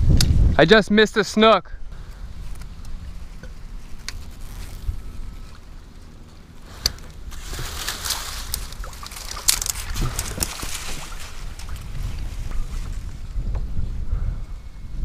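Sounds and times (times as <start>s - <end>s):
low wind rumble on microphone: 0.0s - 1.1s, 1.7s - 15.0s
reeds and grass rustling: 2.0s - 14.4s.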